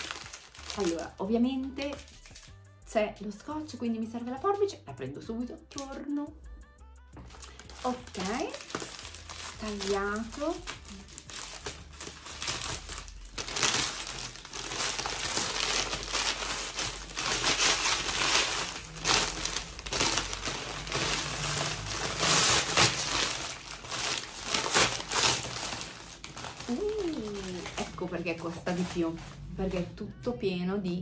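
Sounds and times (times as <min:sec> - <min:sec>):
foil wrapper crinkling: 0:00.0 - 0:02.6, 0:07.2 - 0:29.5.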